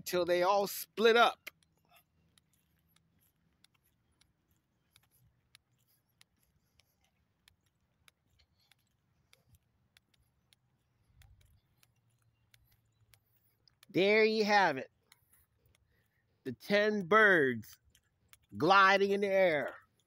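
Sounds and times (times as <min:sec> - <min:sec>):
faint clicks: 0:00.0 - 0:20.0.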